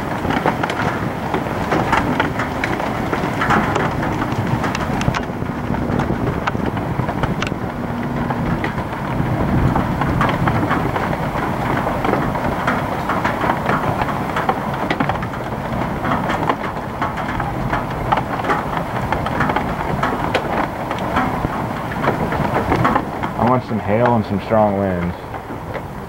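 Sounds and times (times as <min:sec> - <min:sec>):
hail ticking on hard surfaces: 0:00.0 - 0:26.0
heavy rain pouring: 0:00.0 - 0:26.0
wind rumble on microphone: 0:00.0 - 0:26.0.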